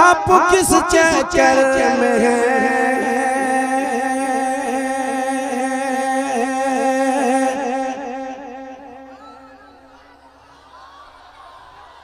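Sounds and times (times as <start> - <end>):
man singing through microphone: 0.0 - 9.9.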